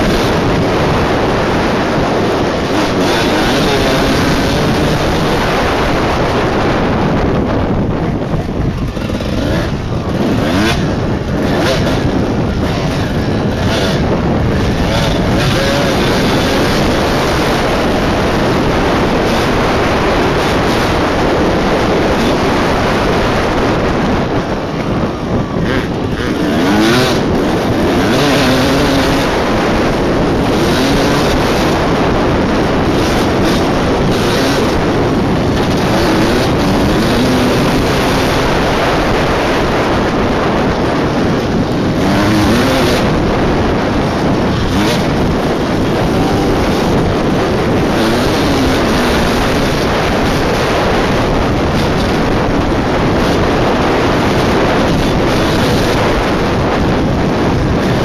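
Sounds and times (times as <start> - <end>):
dirt bike engine revving: 0.0 - 58.0
wind noise on microphone: 0.0 - 58.0.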